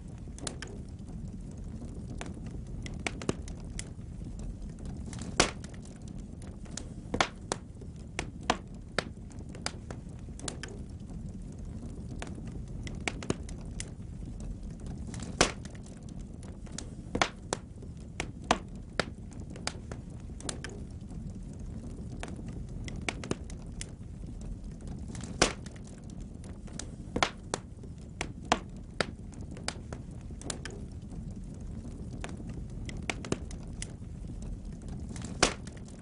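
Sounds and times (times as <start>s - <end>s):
fire rumbling: 0.0s - 36.0s
wood crackling and popping: 0.0s - 36.0s.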